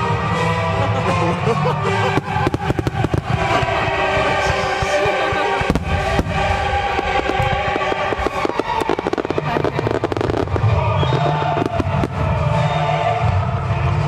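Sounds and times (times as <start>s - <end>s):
music playing: 0.0s - 14.0s
fireworks bangs: 1.1s - 14.0s.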